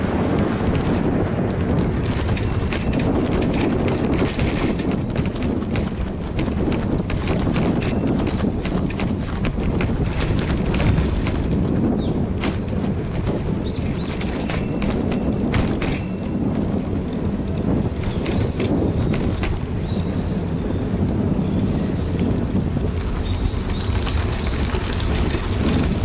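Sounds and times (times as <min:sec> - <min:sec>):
bicycle rattling: 0:00.0 - 0:26.0
rumble of tyres: 0:00.0 - 0:26.0.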